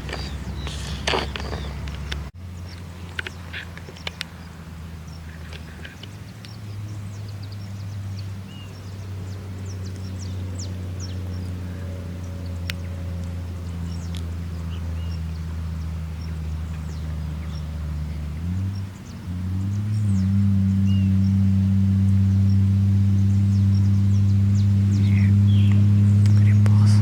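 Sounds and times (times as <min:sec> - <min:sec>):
light aircraft engine droning: 0:00.0 - 0:27.0.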